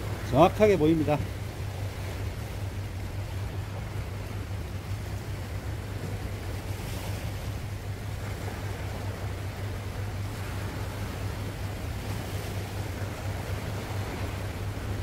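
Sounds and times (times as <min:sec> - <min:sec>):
steady low rumble: 0:00.0 - 0:15.0
waves lapping against rocks: 0:00.0 - 0:15.0.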